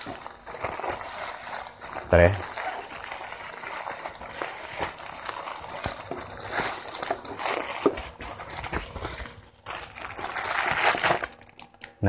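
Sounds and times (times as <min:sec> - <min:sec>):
bubble wrap crackling: 0:00.0 - 0:12.0
plastic packaging crinkling: 0:00.0 - 0:12.0.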